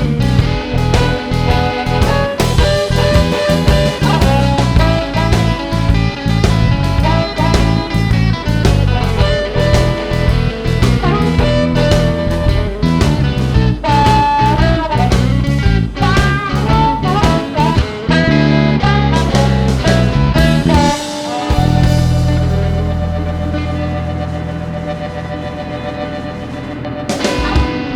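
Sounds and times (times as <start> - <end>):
guitar-led instrumental music: 0.0 - 27.9.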